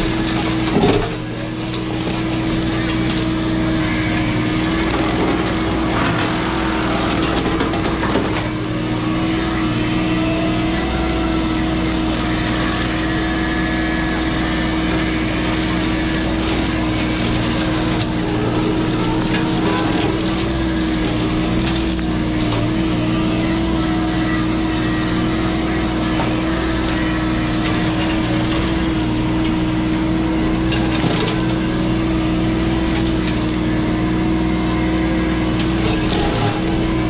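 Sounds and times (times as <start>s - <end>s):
diesel engine running: 0.0s - 37.0s
hydraulic brush cutter whine: 0.0s - 37.0s.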